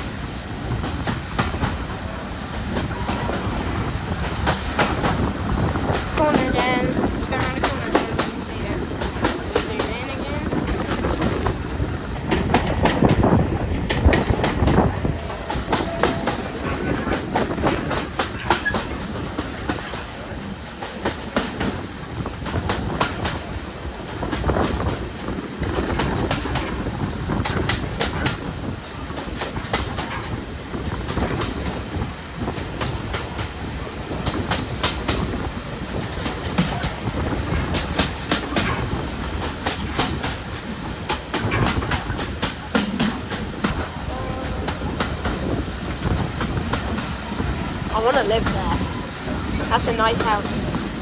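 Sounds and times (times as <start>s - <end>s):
train rumble: 0.0s - 51.0s
train wheels clicking over rail joints: 0.0s - 51.0s.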